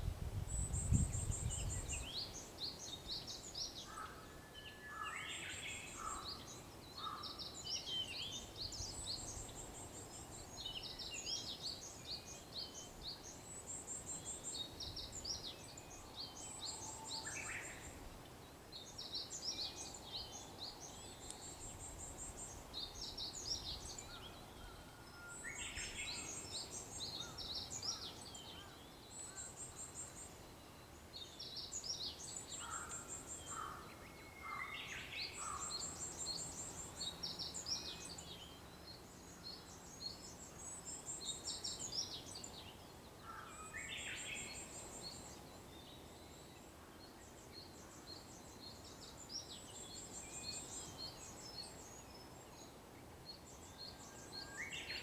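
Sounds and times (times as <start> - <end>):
faint outdoor background noise: 0.0 - 55.0
songbirds singing: 0.0 - 55.0.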